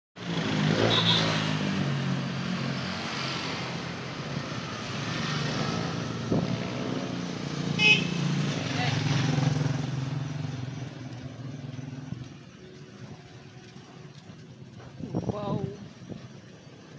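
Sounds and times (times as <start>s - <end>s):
motorcycle engines passing: 0.2s - 16.9s.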